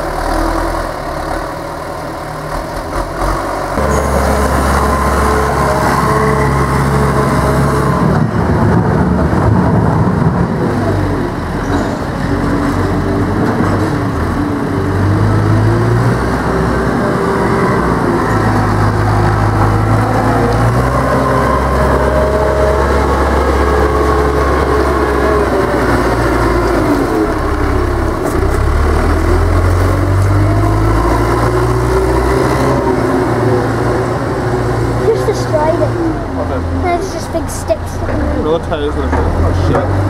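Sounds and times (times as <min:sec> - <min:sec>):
diesel engine revving under load: 0:00.0 - 0:40.0.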